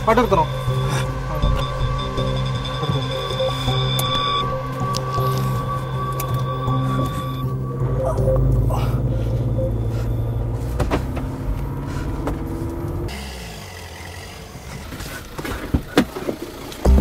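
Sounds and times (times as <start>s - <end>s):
car engine droning: 0.0s - 17.0s
car rolling in: 0.0s - 17.0s.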